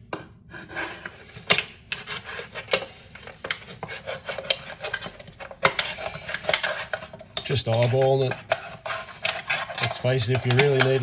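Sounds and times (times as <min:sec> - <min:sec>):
knife cutting drink can: 0:00.6 - 0:11.0
metal clicking and scraping: 0:01.4 - 0:11.0.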